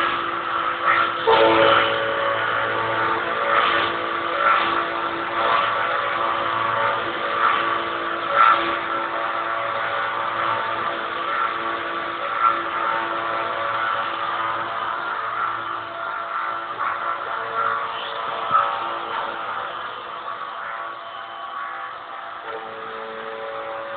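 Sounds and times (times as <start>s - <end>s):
router spindle whining: 0.0s - 23.9s.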